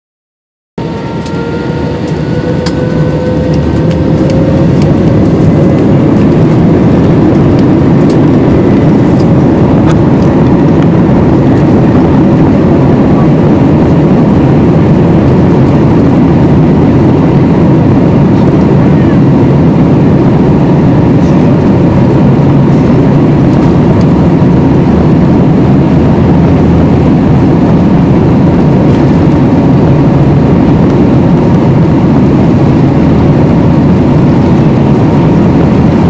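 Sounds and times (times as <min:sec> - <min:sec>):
engine whine rising in pitch: 0:00.8 - 0:36.0
jet engines roaring: 0:00.8 - 0:36.0.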